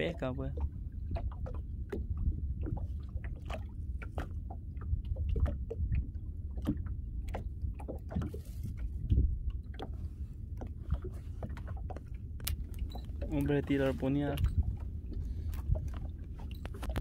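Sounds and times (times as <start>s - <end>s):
boat engine low rumble: 0.0s - 17.0s.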